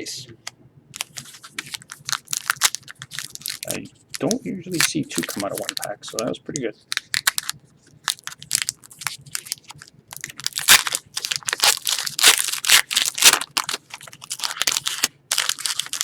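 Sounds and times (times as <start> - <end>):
card wrapper crinkling and tearing: 1.0 - 16.0.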